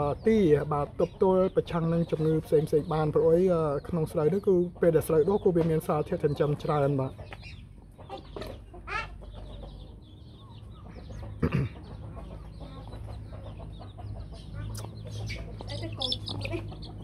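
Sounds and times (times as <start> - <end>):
chicks cheeping: 0.0 - 17.0.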